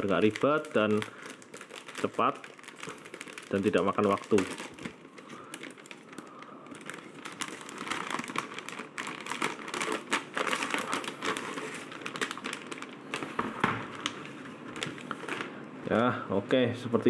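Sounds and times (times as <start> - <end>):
packaging rustling and crinkling: 0.0 - 16.1.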